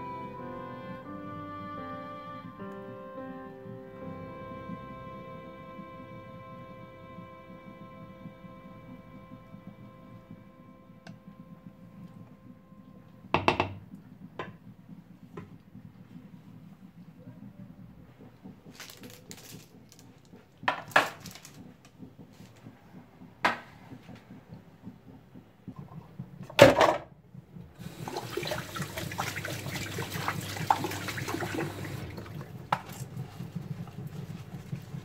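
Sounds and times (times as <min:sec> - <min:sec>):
tap running: 0:03.6 - 0:35.0.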